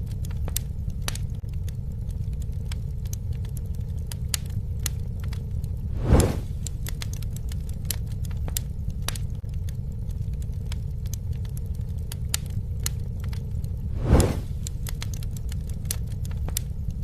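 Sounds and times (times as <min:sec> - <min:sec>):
campfire crackling: 0:00.0 - 0:17.0
wood fire popping: 0:00.0 - 0:17.0.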